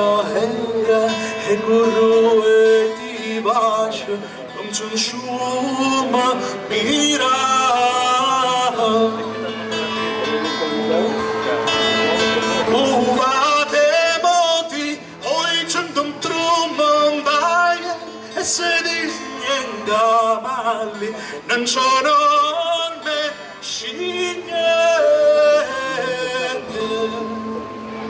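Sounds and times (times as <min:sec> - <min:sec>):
acoustic guitar: 0:00.0 - 0:28.0
man singing folk song: 0:00.0 - 0:28.0.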